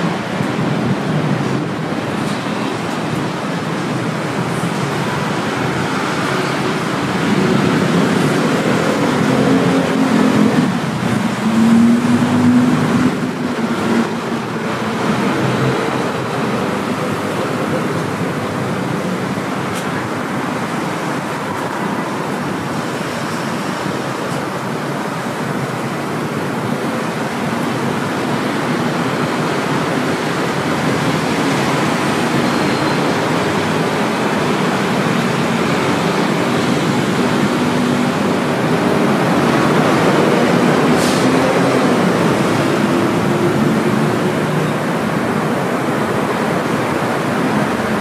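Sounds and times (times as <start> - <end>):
city traffic noise: 0.0 - 48.0.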